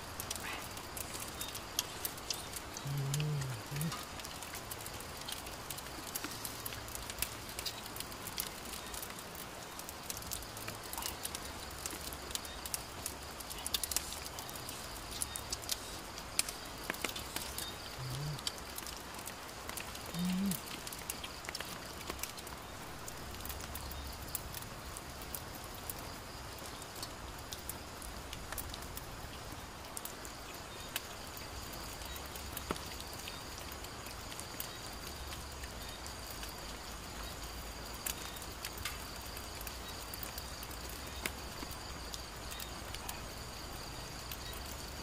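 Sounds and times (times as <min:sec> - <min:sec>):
insects trilling: 0:00.0 - 0:45.0
wood fire crackling: 0:00.0 - 0:45.0.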